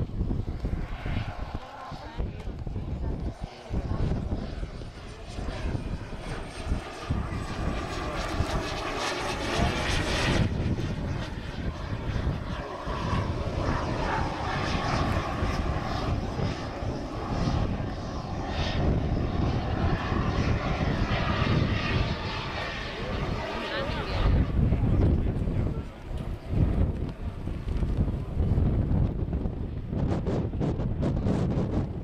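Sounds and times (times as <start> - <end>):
model jet engines rushing: 0.0 - 32.0.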